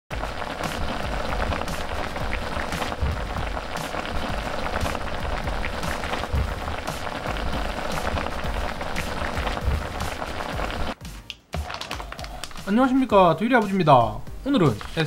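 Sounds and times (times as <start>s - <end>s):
broth boiling and bubbling: 0.1s - 11.0s, 11.6s - 13.2s.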